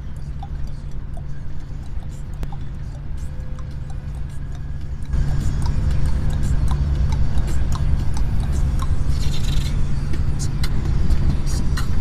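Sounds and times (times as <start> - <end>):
truck engine drone: 0.0 - 12.0
beatboxed hissing hi-hat: 0.1 - 12.0
person beatboxing clicks: 0.2 - 12.0.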